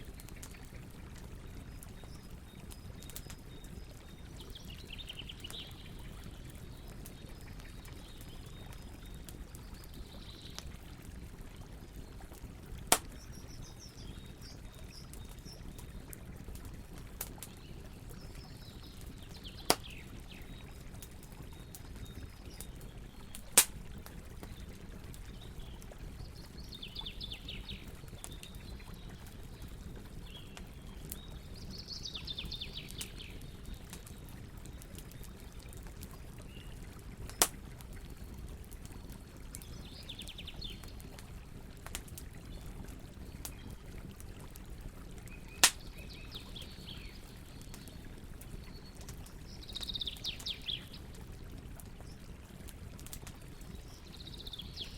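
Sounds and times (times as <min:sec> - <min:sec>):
wood popping in fire: 0:00.0 - 0:26.5, 0:27.5 - 0:54.9
campfire rumble: 0:00.0 - 0:54.9.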